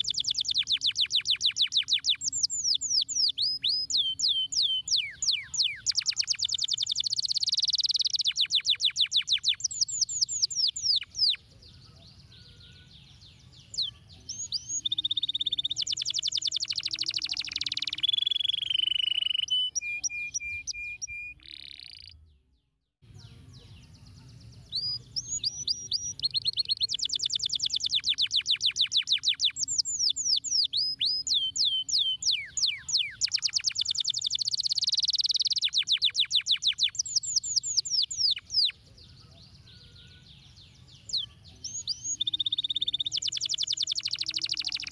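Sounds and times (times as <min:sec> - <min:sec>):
canary singing trills: 0:00.0 - 0:22.3, 0:23.0 - 0:44.9.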